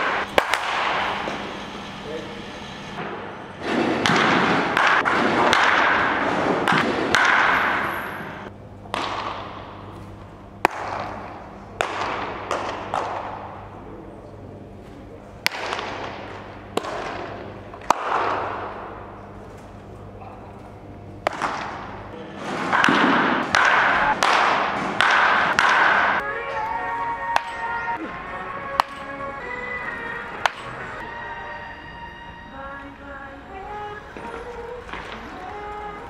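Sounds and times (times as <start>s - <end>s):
baseball cracks: 0.0s - 1.4s, 3.0s - 13.7s, 15.4s - 31.0s, 34.2s - 36.0s
crowd noise: 0.0s - 7.1s, 10.9s - 36.0s.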